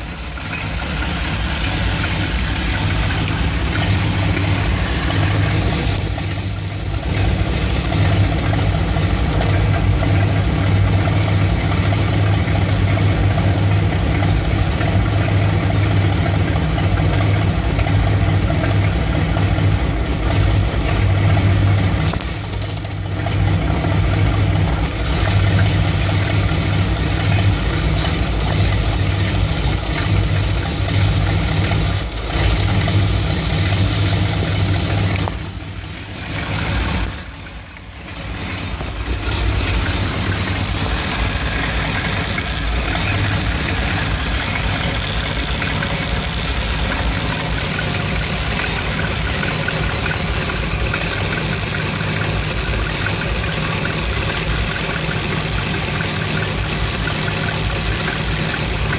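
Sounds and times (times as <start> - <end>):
car engine idling roughly: 0.0 - 58.9.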